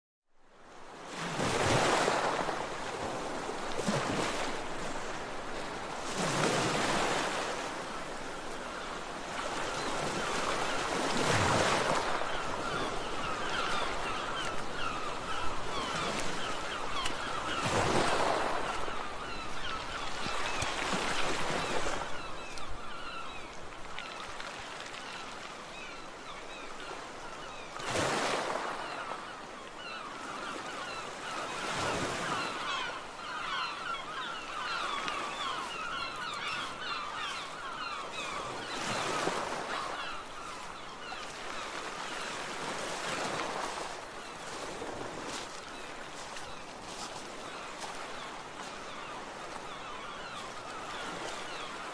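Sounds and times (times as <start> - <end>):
sea waves breaking on beach: 0.7 - 51.9.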